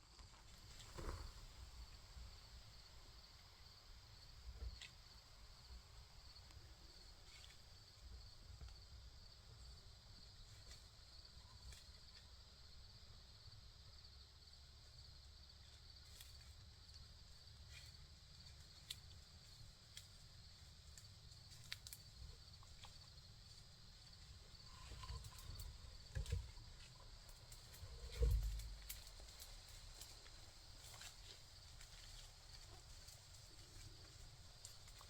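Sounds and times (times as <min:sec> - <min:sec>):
crickets trilling: 0:00.1 - 0:35.0.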